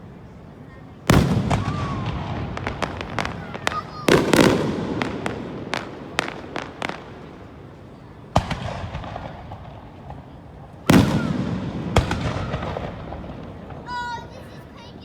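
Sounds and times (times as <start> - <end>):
fireworks bursting with sharp bangs: 1.0 - 15.0.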